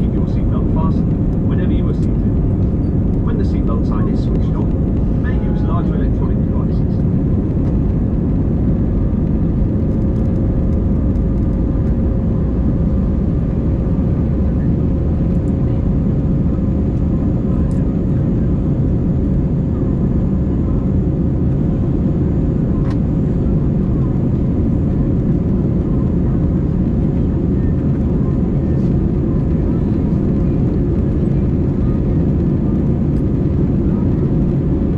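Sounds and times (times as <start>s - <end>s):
jet engine cabin roar: 0.0s - 34.9s.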